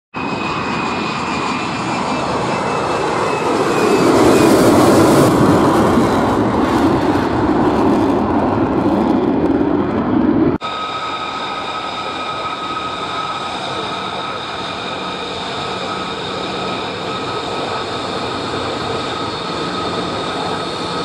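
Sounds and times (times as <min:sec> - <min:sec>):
jet engine roar with whine: 0:00.1 - 0:21.0.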